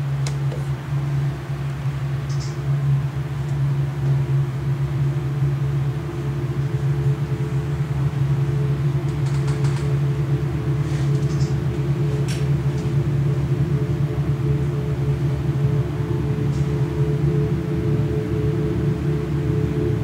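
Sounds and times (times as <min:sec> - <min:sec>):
low electronic drone: 0:00.0 - 0:20.0.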